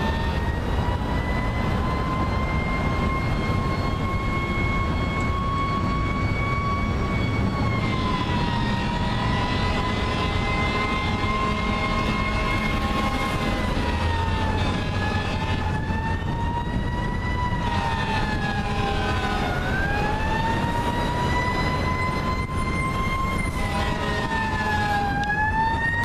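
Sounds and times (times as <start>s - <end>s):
fire truck siren wailing: 0.0s - 26.0s
road traffic rumble: 0.0s - 26.0s.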